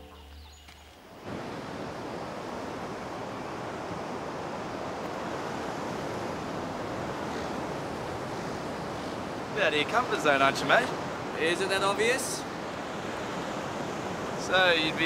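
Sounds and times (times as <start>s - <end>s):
ocean surf breaking: 1.2s - 15.0s.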